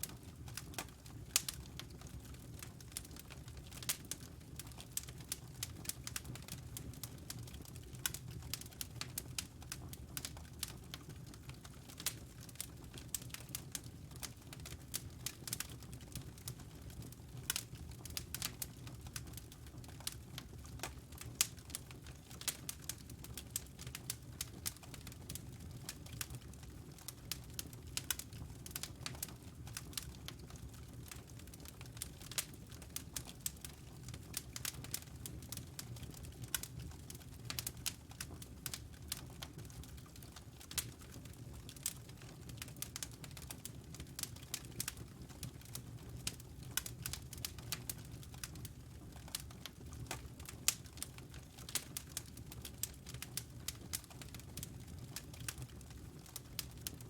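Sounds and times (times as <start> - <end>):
burning logs crackling: 0.0 - 57.0
low rumble of flame: 0.0 - 57.0.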